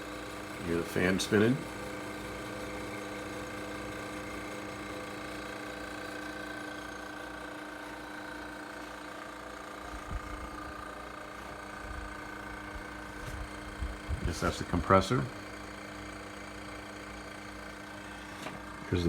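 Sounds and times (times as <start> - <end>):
refrigerator cooling unit humming: 0.0 - 19.0.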